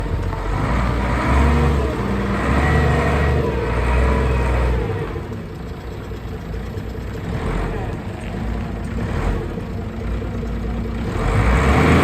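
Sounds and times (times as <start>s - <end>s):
forklift engine revving: 0.0s - 12.0s.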